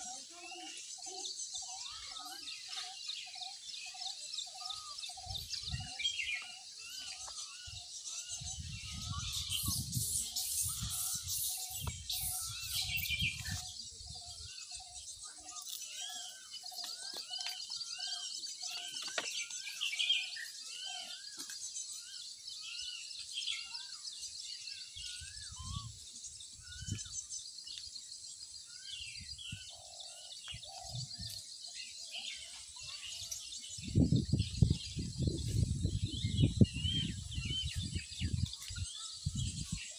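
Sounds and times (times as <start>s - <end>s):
birds whistling calls: 0.0s - 39.9s.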